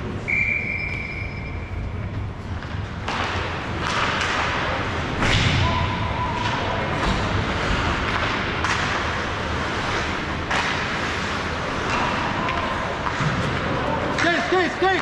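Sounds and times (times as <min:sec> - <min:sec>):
puck and stick thuds: 0:02.4 - 0:15.0.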